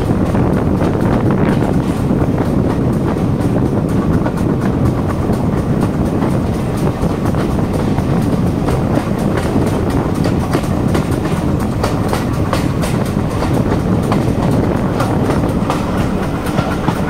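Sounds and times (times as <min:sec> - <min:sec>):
train rumbling along track: 0:00.0 - 0:17.0
wheels clicking over rail joints: 0:00.0 - 0:17.0.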